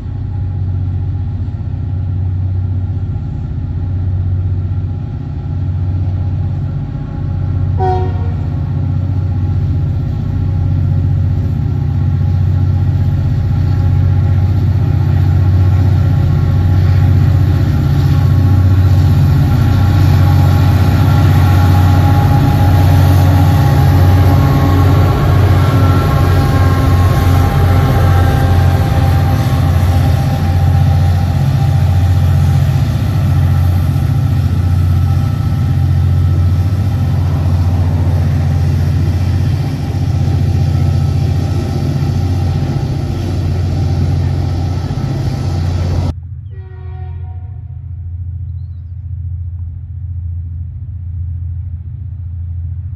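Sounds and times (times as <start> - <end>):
diesel locomotive engines: 0.0 - 52.9
train wheels rumbling on rails: 0.0 - 52.9.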